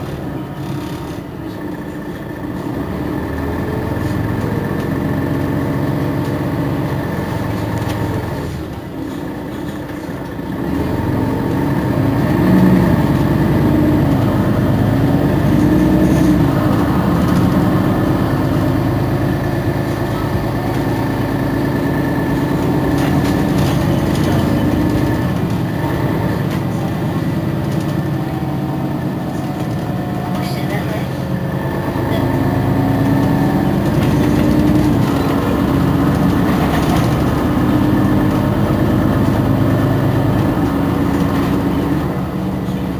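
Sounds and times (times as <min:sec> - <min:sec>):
bus engine idling: 0:00.0 - 0:42.9.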